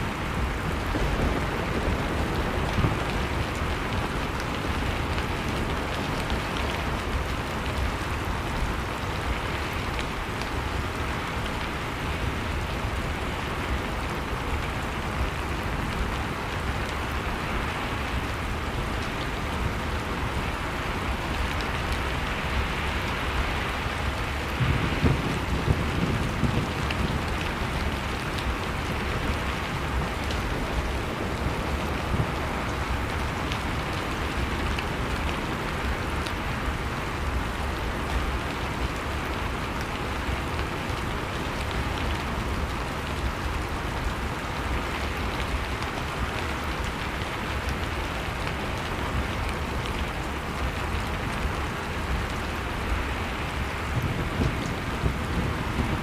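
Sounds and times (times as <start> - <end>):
blizzard wind: 0.0 - 56.0
wood fire crackling: 0.0 - 56.0.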